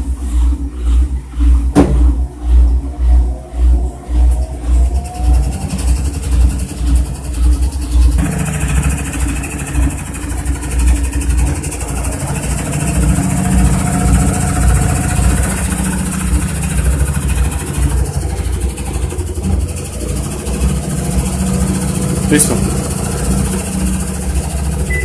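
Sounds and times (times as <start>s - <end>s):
washing machine spin rumble: 0.0s - 25.0s.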